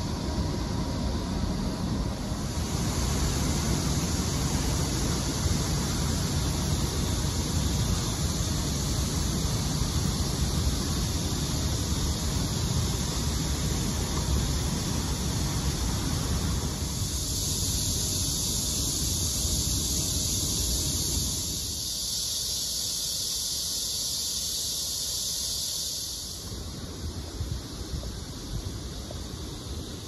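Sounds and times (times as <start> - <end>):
high-pitched hiss: 0.0 - 30.0.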